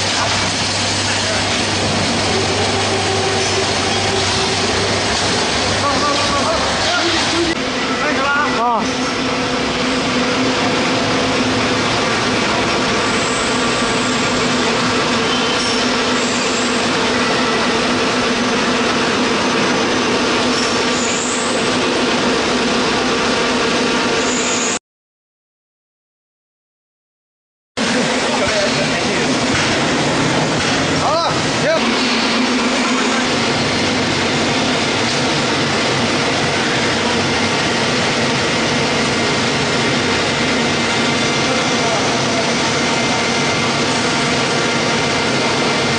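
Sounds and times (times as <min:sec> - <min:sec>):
dicing machines and conveyor belts: 0:00.0 - 0:24.8, 0:27.8 - 0:45.9
steady motor hum: 0:00.0 - 0:24.8, 0:27.8 - 0:45.9.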